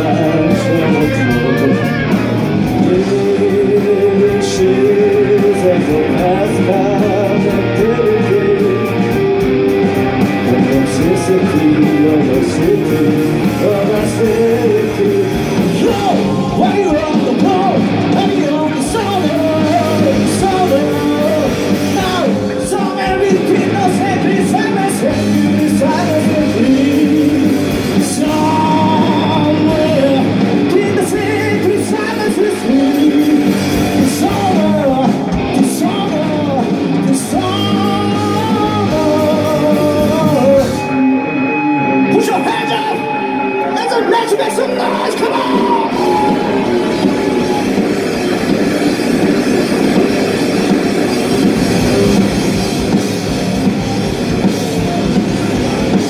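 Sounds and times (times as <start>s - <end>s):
man singing: 0.0s - 48.6s
bass guitar: 0.0s - 56.0s
drums: 0.0s - 56.0s
electric guitars: 0.0s - 56.0s.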